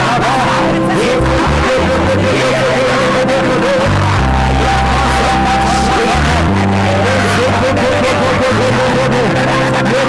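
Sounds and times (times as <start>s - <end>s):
worship music: 0.0s - 10.0s.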